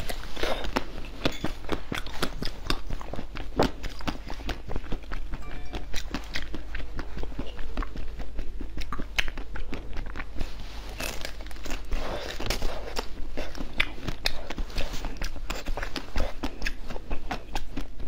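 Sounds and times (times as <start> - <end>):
chewing: 0.0 - 18.0
crunching frozen treat: 0.0 - 18.0.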